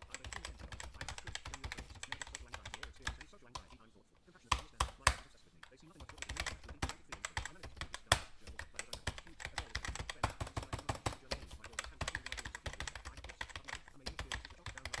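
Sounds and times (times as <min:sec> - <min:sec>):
computer keyboard typing: 0:00.0 - 0:15.0.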